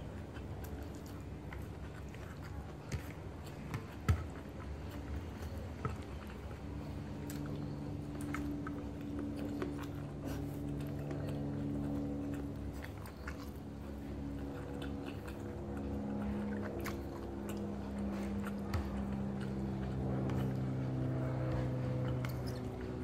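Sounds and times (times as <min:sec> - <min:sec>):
low hum: 0:00.0 - 0:23.0
person chewing: 0:00.0 - 0:23.0.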